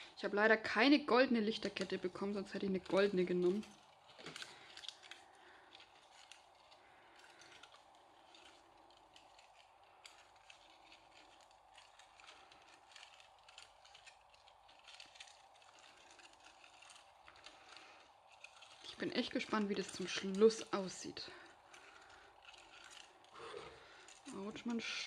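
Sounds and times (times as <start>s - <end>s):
faint steady hum: 0.0s - 25.0s
wire light string rustling and clicking: 0.0s - 25.0s.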